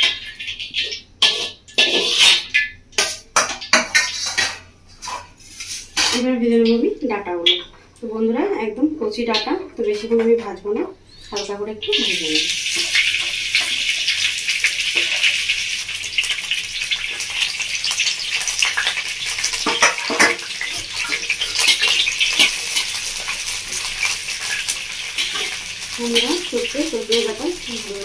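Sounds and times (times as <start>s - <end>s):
stems sizzling in hot oil: 0.0s - 8.2s, 9.0s - 28.0s.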